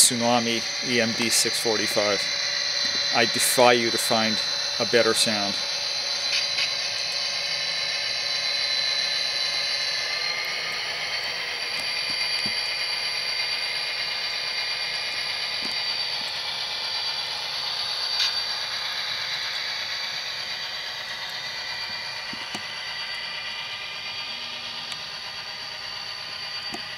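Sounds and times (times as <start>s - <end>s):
diesel engine sound through small speaker: 0.0s - 26.9s.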